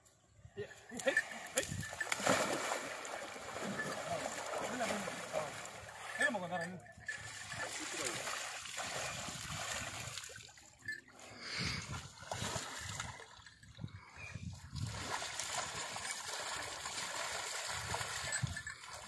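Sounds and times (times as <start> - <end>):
water splashing and sloshing: 0.9 - 19.0.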